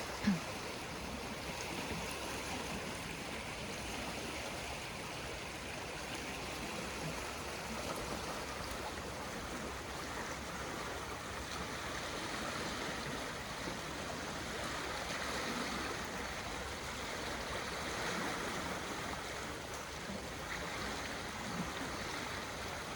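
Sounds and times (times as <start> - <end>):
river rushing: 0.0 - 22.9.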